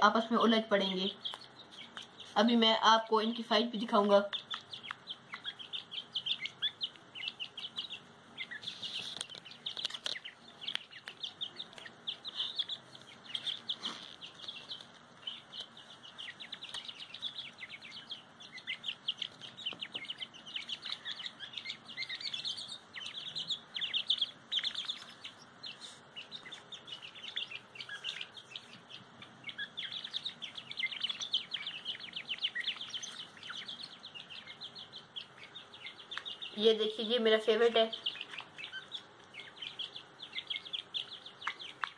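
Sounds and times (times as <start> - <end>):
chicks cheeping: 0.0 - 41.9.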